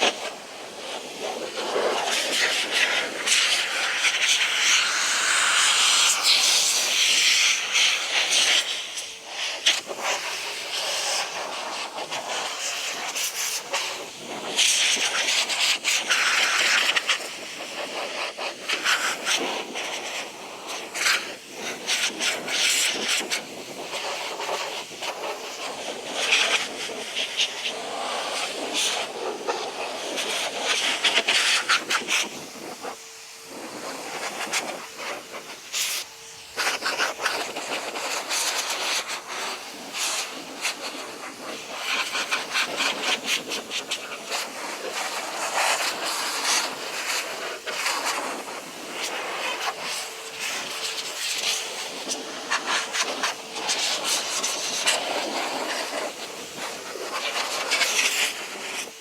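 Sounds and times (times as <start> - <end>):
hissing spray bursts: 0.0 - 59.0.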